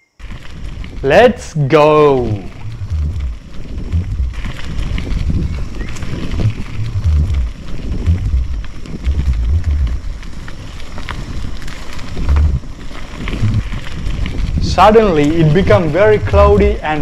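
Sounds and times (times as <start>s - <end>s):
bike rolling on dirt trail: 0.0s - 17.0s
wind rumbling on microphone: 0.0s - 17.0s.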